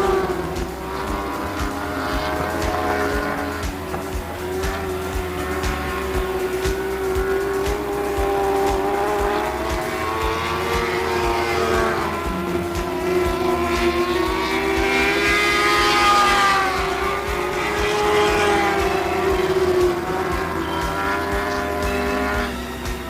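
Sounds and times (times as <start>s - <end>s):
racing car engines at high revs: 0.0s - 23.0s.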